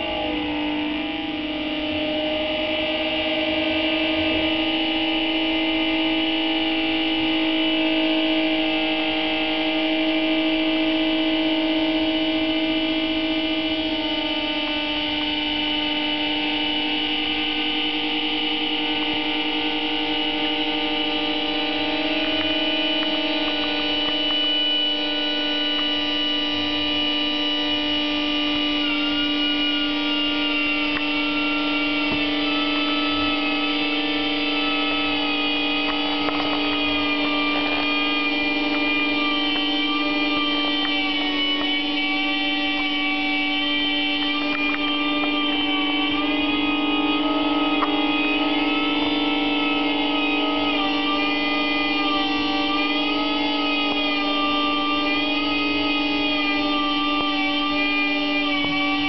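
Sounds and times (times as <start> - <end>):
ambient music drone: 0.0 - 59.0.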